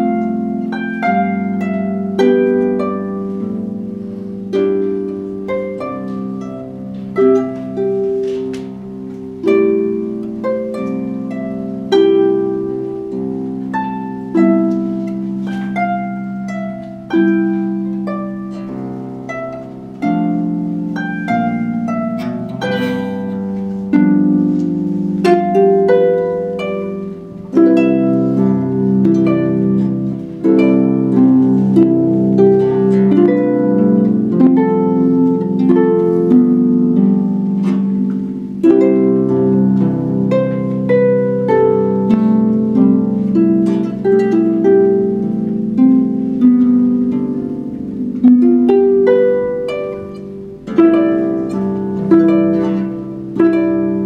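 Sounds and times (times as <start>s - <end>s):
concert harp plucked notes: 0.0s - 54.0s.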